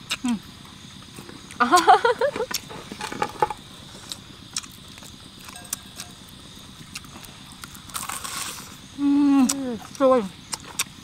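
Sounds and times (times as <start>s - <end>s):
crunching and chewing: 0.0s - 11.0s.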